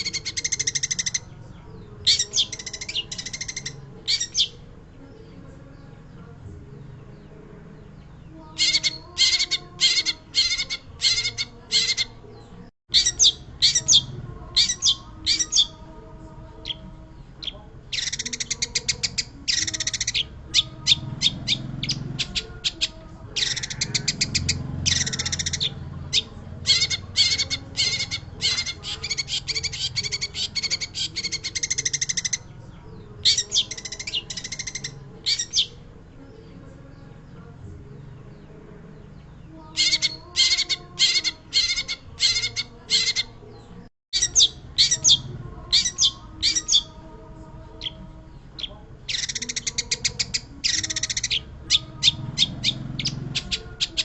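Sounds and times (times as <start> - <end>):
bird singing harsh chattering notes: 0.0 - 5.0, 8.0 - 15.9, 16.6 - 35.8, 39.1 - 54.0.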